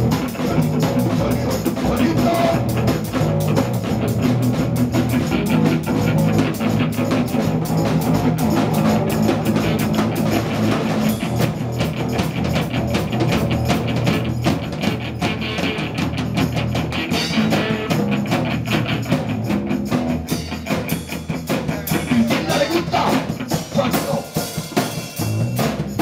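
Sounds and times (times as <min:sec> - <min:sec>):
bass line: 0:00.0 - 0:26.0
drum kit beating: 0:00.0 - 0:26.0
electric guitar: 0:00.0 - 0:26.0.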